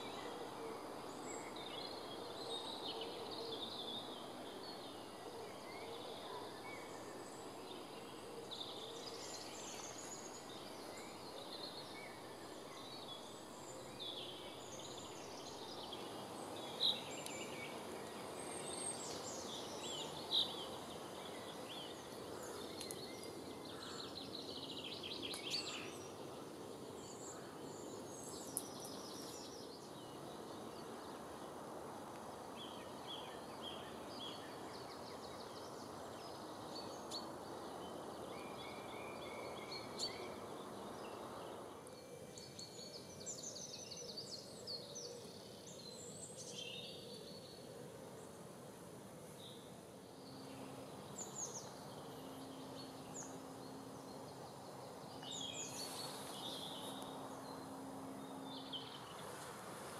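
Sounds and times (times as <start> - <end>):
steady outdoor hiss: 0.0 - 59.9
wild birds singing and calling: 0.0 - 59.9.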